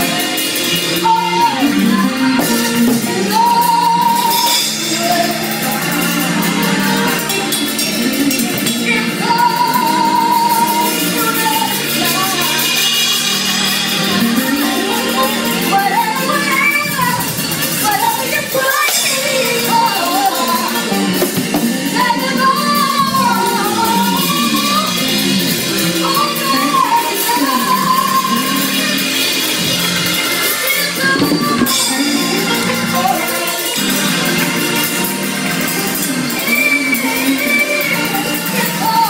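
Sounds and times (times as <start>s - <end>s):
woman singing into a microphone: 0.0s - 29.7s, 30.4s - 34.2s, 35.5s - 39.0s
keyboard accompaniment: 0.0s - 39.0s.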